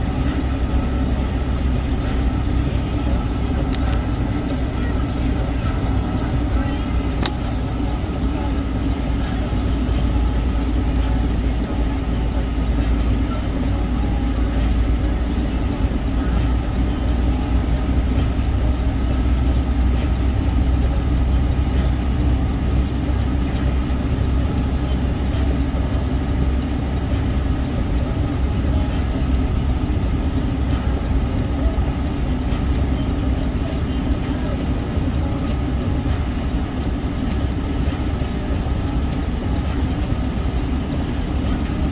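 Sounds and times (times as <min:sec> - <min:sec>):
car road noise from inside: 0:00.0 - 0:41.9.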